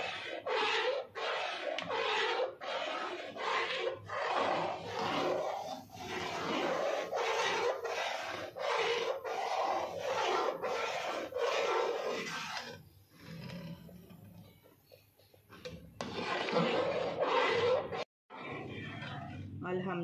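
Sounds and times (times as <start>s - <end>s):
metal spatula scraping metal pan: 0.0s - 13.9s, 16.0s - 19.5s.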